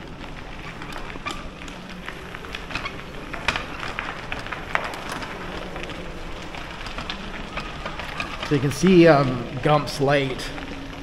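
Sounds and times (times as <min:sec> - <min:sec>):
wheelchair tyres rolling on gravel: 0:00.0 - 0:11.0.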